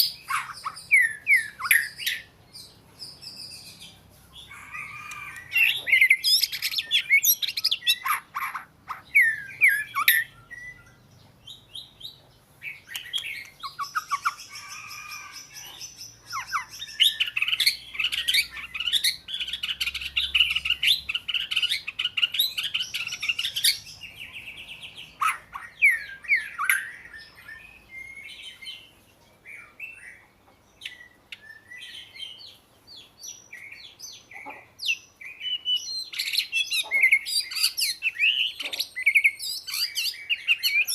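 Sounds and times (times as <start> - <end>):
bird singing whistles and chirps: 0.0 - 4.0, 5.0 - 8.5, 9.1 - 28.9, 30.8 - 34.2, 34.8 - 40.9.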